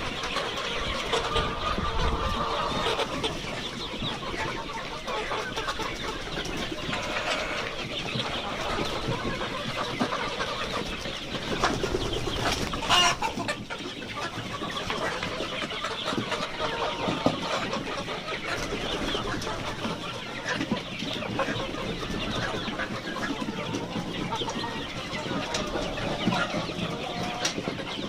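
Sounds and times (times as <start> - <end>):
chicken squawk: 0.0 - 28.0
chickens clucking: 0.0 - 28.0.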